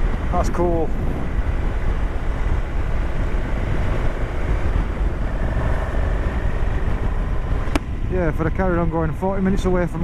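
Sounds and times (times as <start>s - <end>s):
motorcycle engine rumbling: 0.0s - 10.0s
wind rushing over microphone: 0.0s - 10.0s.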